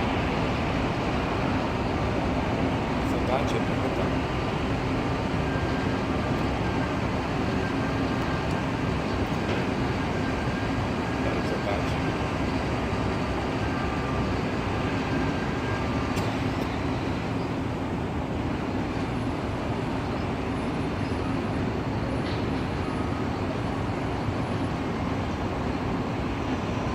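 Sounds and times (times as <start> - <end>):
jet engines rumbling: 0.0 - 26.9.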